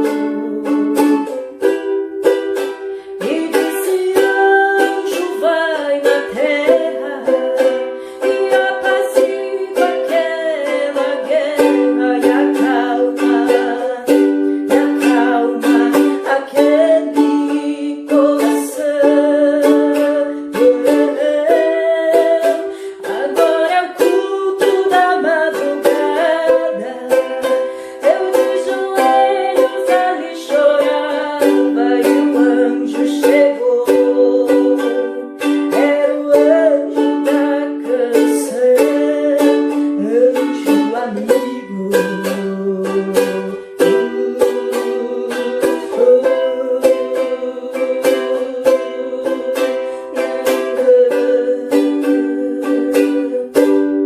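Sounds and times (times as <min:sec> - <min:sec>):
ukulele strumming chords: 0:00.0 - 0:54.0.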